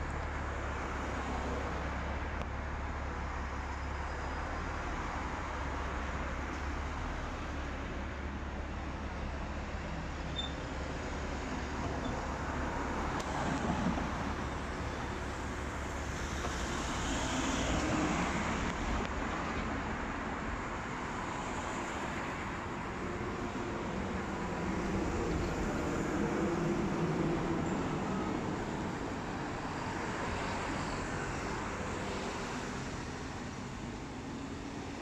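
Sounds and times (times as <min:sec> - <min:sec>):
cars and buses passing: 0:00.0 - 0:35.0.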